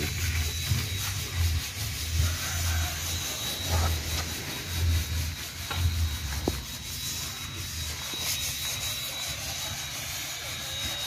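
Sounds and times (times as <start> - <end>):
masking tape rubbing on hull: 0.0 - 11.0.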